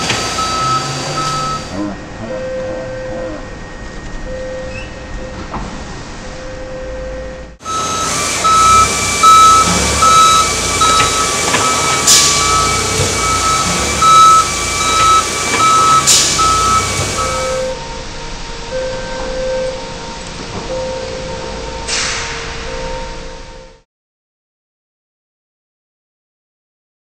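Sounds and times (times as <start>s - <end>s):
forklift warning beeper: 0.0s - 23.7s
forklift running: 0.0s - 23.8s.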